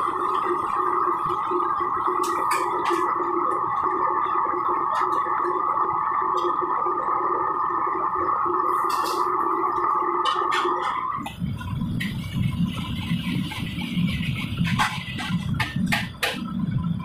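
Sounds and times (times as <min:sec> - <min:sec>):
gas burner roaring: 0:00.0 - 0:17.0.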